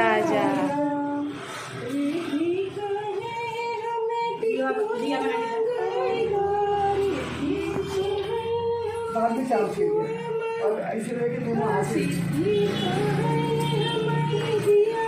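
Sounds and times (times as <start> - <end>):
woman singing devotional song: 0.0 - 15.0.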